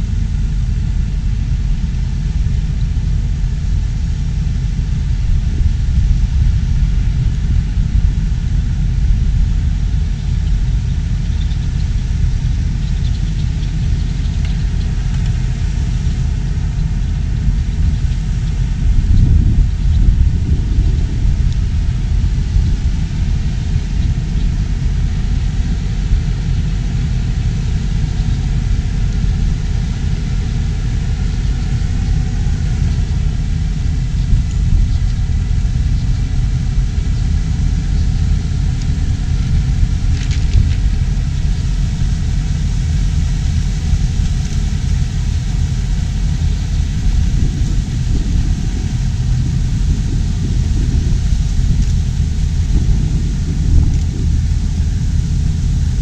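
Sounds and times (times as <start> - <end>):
faint tractor engine hum: 0.0 - 56.0
water churning around tyres: 0.0 - 56.0
wind rumble on microphone: 0.0 - 56.0.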